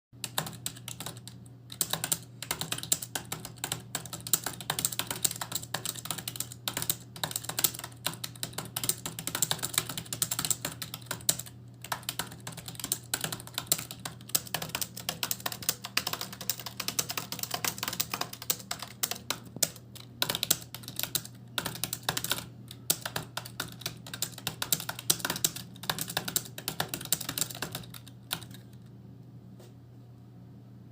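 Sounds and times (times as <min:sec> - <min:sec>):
fast keyboard typing: 0:00.2 - 0:28.8
low steady hum: 0:00.2 - 0:30.9.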